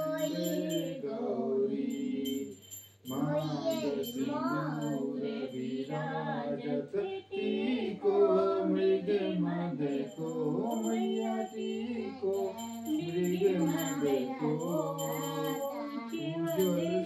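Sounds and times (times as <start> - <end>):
voices singing devotional song: 0.0 - 17.0.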